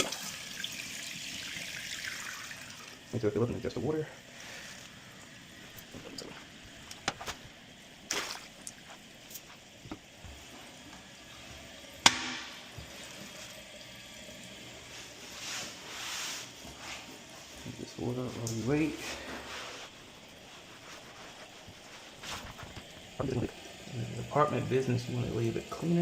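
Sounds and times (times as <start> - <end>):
toilet tank refilling: 0.0 - 26.0.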